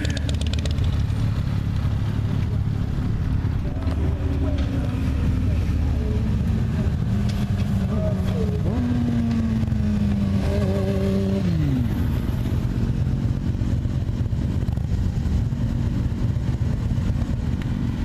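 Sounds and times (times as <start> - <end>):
motorcycle engine revving: 0.0 - 18.0
wind and road noise rumble: 0.0 - 18.0.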